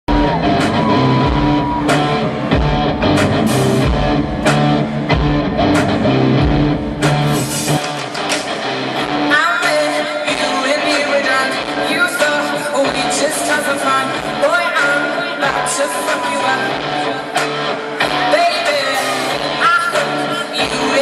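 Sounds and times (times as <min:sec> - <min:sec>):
live rock band music: 0:00.1 - 0:21.0.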